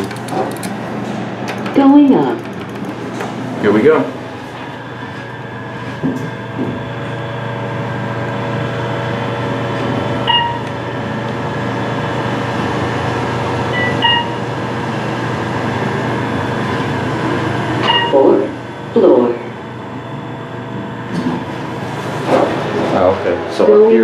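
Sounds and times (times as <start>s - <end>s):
elevator motor hum: 0.0s - 24.0s.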